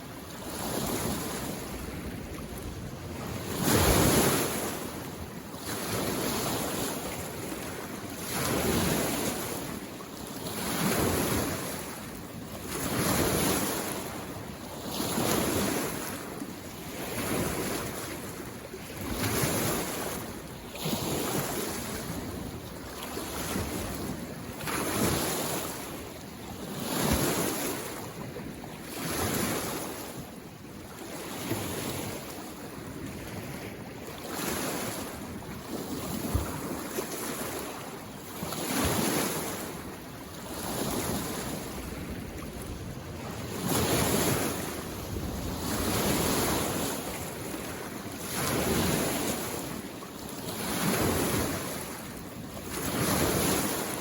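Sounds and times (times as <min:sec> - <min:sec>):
lake waves washing against shore: 0:00.0 - 0:54.0.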